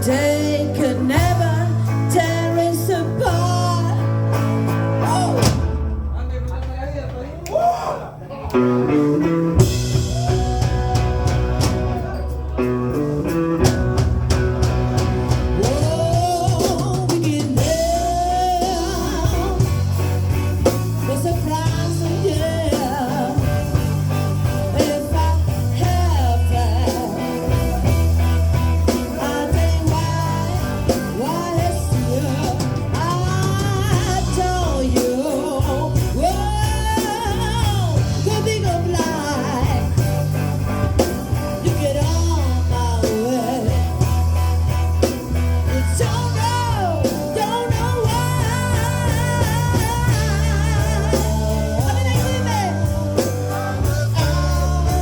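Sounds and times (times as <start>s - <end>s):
person singing: 0.0s - 5.7s, 8.5s - 13.8s, 15.0s - 55.0s
live pop-rock band: 0.0s - 6.7s, 8.1s - 55.0s
bass line: 0.0s - 55.0s.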